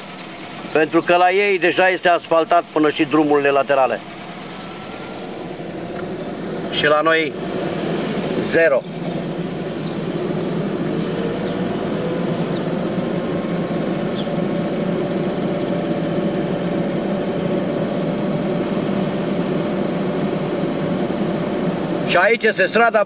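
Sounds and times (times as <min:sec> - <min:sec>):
car engine hum: 0:00.0 - 0:23.0
tyre noise on road: 0:02.1 - 0:22.2.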